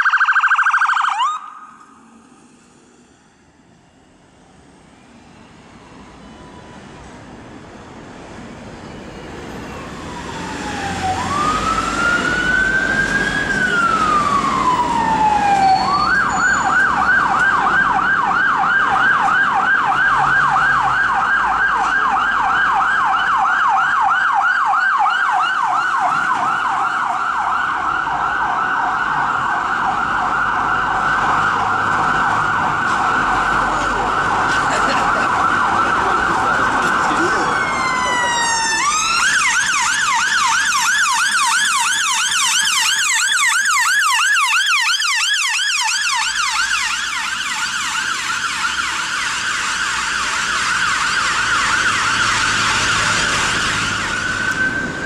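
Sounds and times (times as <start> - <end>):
police siren wailing and yelping: 0.0 - 2.0, 9.2 - 55.0
second siren with falling sweeps: 0.0 - 7.1, 8.9 - 55.0.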